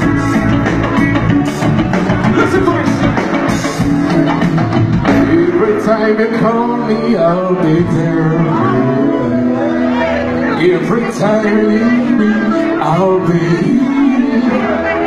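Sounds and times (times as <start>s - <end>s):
live band music with singing: 0.0s - 15.0s.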